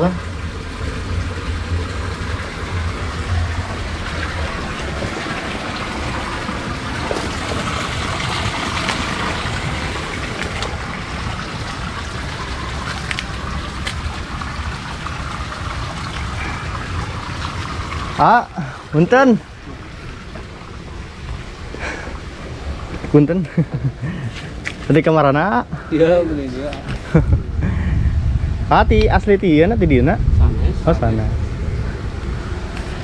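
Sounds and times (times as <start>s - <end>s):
low rumble: 0.0s - 23.9s, 26.9s - 33.0s
water running in a channel: 0.0s - 33.0s.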